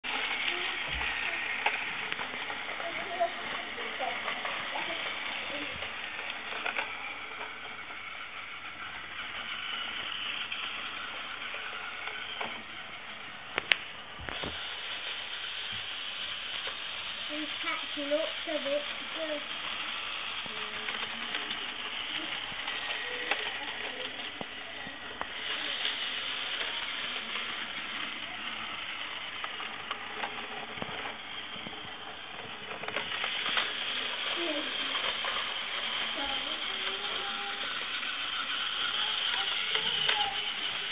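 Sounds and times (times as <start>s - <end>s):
toy train motor whirring: 0.0s - 40.9s.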